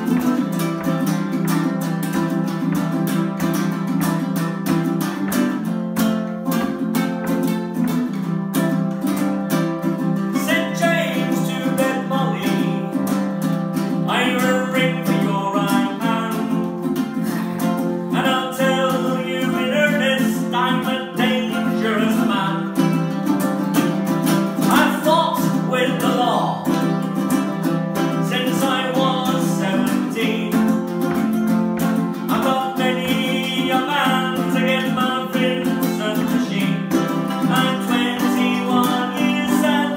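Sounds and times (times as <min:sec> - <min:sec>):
man singing: 0:00.0 - 0:05.7, 0:09.0 - 0:39.9
ukuleles strumming: 0:00.0 - 0:39.9.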